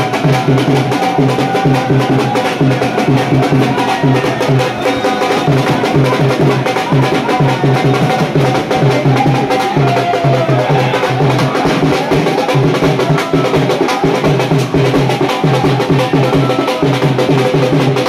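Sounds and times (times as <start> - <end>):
crowd cheering and shouting: 0.0 - 18.0
rapid drumbeat: 0.0 - 18.0.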